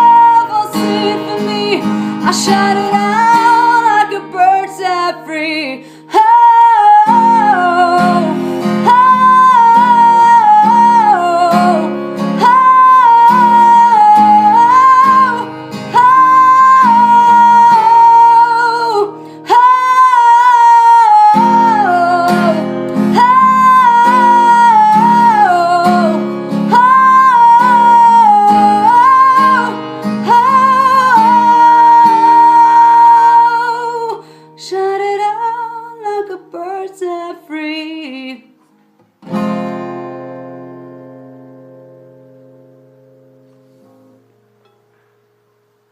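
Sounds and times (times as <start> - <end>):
strummed acoustic guitar: 0.0 - 37.2, 37.9 - 45.7.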